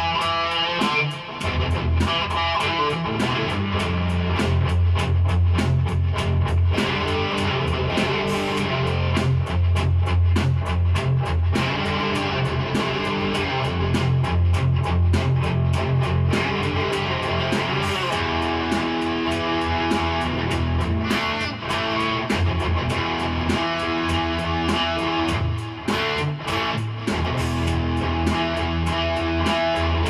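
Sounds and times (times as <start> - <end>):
heavily distorted electric guitar: 0.0 - 30.0.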